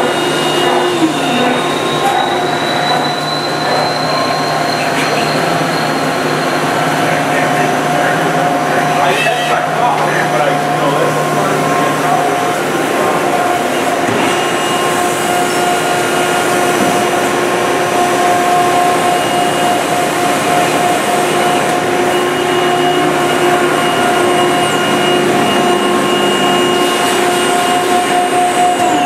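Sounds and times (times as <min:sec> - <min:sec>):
machinery whirring hum: 0:00.0 - 0:29.0
steady machine tones: 0:00.0 - 0:29.0.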